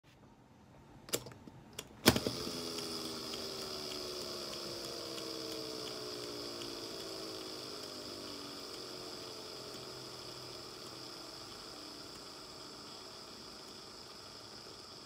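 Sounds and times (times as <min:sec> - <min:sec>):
fingers clicking on reel: 0:02.1 - 0:15.0
fishing reel spool whirring: 0:02.1 - 0:15.0.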